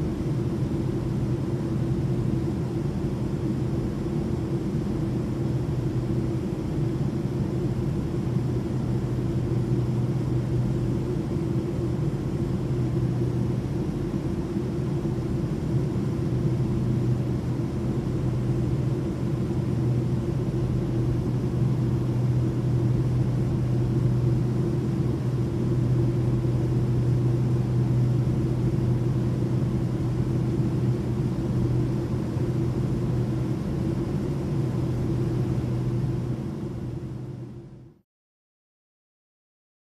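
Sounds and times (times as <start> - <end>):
airplane engine drone: 0.0 - 38.0.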